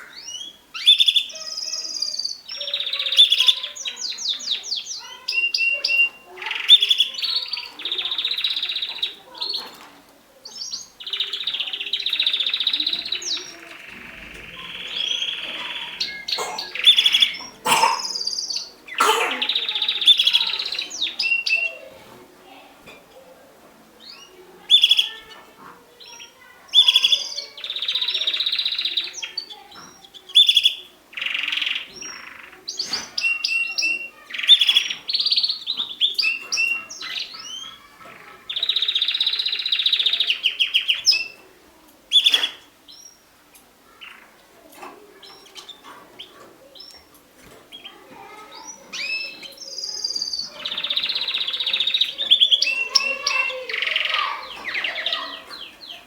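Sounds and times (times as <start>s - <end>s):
canaries singing with rattling trills: 0.0s - 56.0s.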